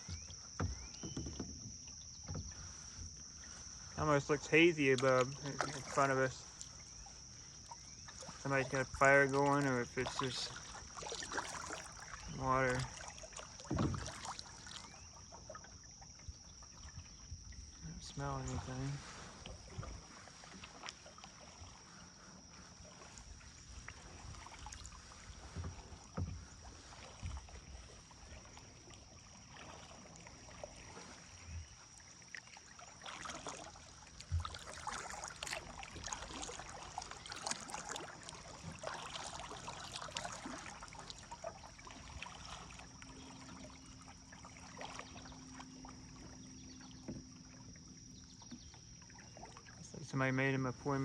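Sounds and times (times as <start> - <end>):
kayak paddle splashing in water: 0.0 - 51.0.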